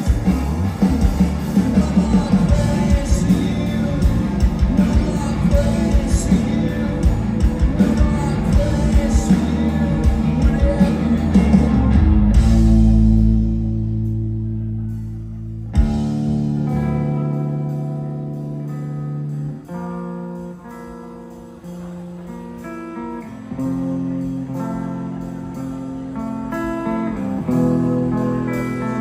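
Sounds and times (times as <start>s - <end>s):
rock band playing: 0.0s - 29.0s.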